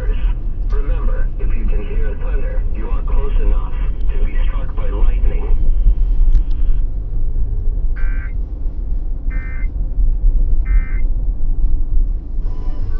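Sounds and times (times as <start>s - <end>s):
car cabin rumble: 0.0s - 12.9s.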